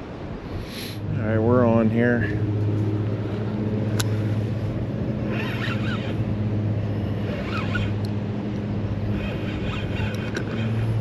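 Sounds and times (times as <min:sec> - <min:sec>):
low mechanical hum: 0:00.0 - 0:11.0
rushing background noise: 0:00.0 - 0:11.0.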